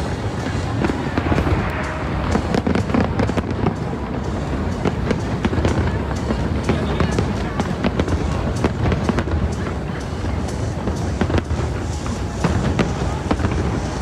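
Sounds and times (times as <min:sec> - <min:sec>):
firework booms: 0:00.0 - 0:14.0
firework cracks: 0:00.0 - 0:14.0.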